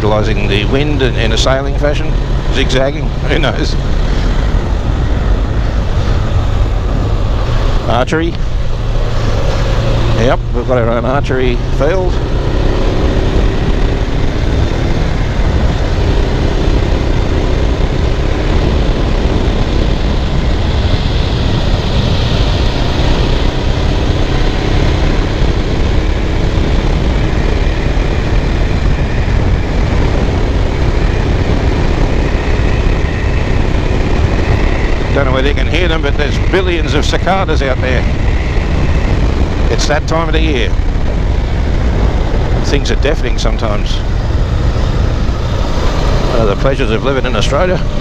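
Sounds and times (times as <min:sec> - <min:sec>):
motorcycle engine running: 0:00.0 - 0:48.0
wind rush over microphone: 0:00.0 - 0:48.0.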